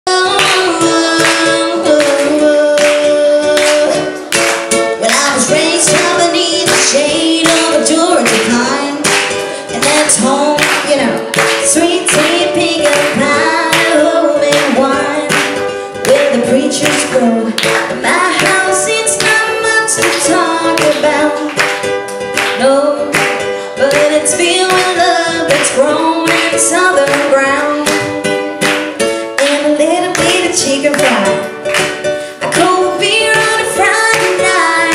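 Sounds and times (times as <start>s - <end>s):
guitar playing: 0.1s - 34.9s
hands clapping: 0.1s - 34.9s
person singing: 0.1s - 34.9s.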